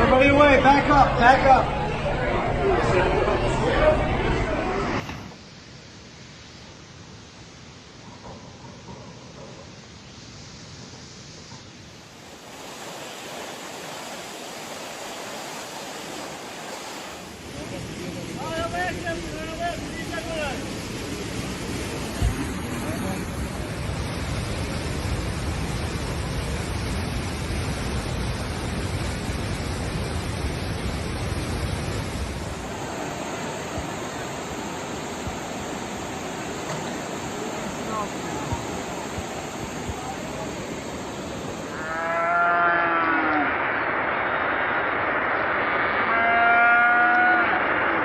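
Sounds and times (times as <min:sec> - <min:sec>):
surging surf: 0:07.8 - 0:48.0.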